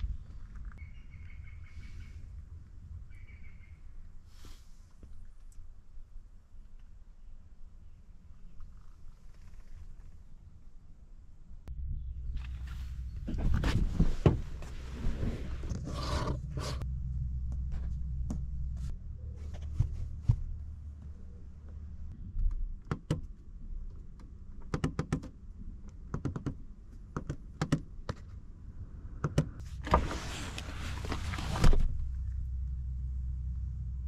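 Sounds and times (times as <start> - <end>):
low steady rumble: 0.0 - 24.7, 25.3 - 34.0.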